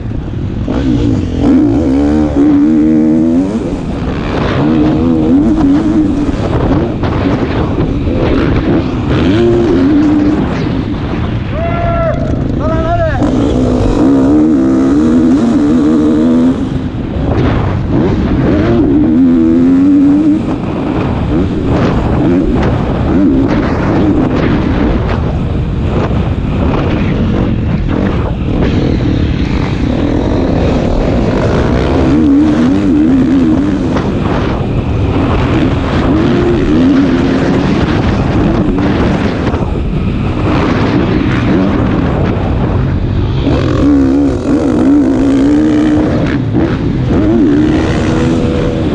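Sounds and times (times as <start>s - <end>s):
motocross bike engine revving: 0.0s - 11.4s, 12.1s - 48.9s
steady rush of noise: 0.0s - 48.9s.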